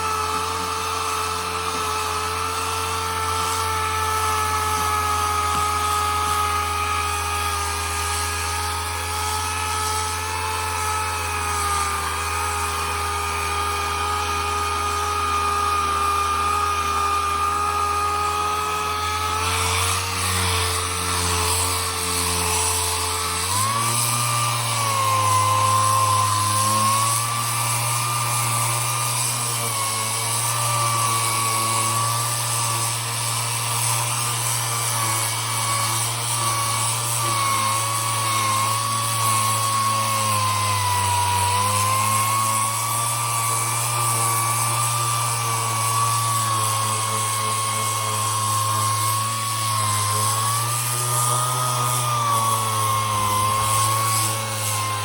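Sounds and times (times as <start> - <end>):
power tool whining: 0.0 - 55.0.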